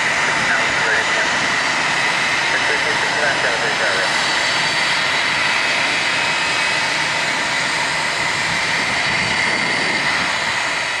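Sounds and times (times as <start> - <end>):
propellers roaring: 0.0 - 11.0
turboprop engines high whine: 0.0 - 11.0.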